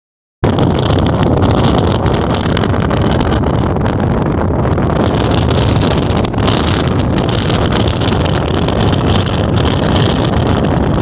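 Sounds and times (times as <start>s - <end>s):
ferry engine rumbling: 0.4s - 11.0s
wind on microphone: 0.4s - 11.0s.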